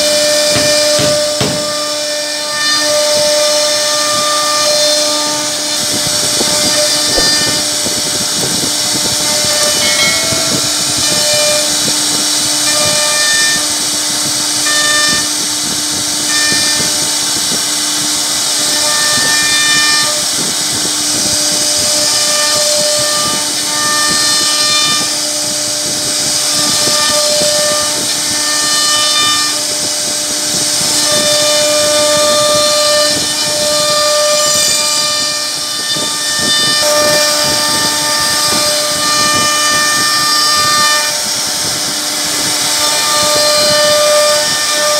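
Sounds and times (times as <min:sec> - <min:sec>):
router spindle whine: 0:00.0 - 0:44.9.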